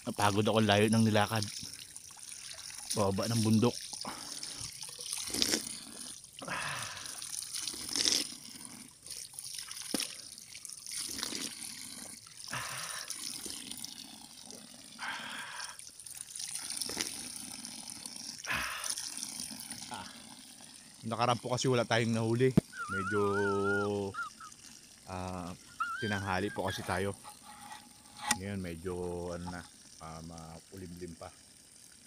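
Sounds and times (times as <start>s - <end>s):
water poured splashing and trickling: 0.0s - 32.0s.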